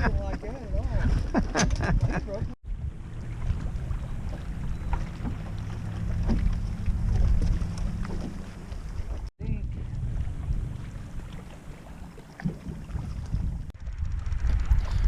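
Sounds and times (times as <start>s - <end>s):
wind buffeting microphone: 0.0s - 15.0s
water splashes: 0.7s - 13.7s.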